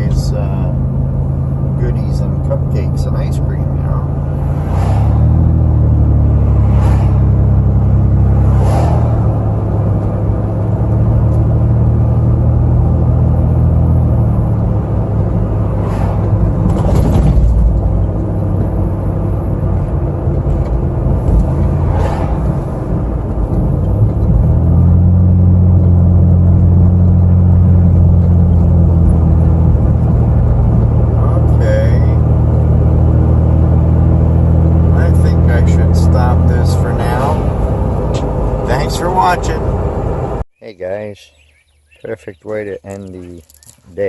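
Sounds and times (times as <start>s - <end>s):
car engine drone: 0.0s - 40.5s
vehicles passing whooshes: 0.0s - 40.5s
road noise: 0.0s - 44.0s.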